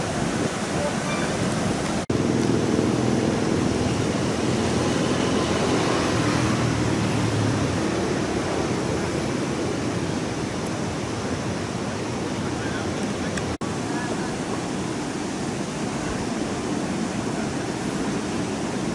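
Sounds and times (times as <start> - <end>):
rough sea surf rushing: 0.0 - 18.9.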